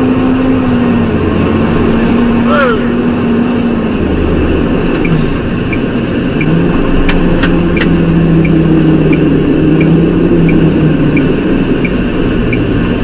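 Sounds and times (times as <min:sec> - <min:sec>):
light regular ticking: 0:00.0 - 0:13.0
low drone: 0:00.0 - 0:13.0
road noise: 0:00.0 - 0:13.0
vehicle engine: 0:00.0 - 0:13.0.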